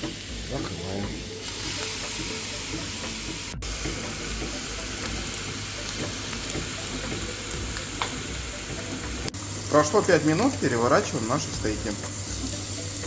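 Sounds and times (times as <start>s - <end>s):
meat sizzling in a grill: 0.0s - 13.0s.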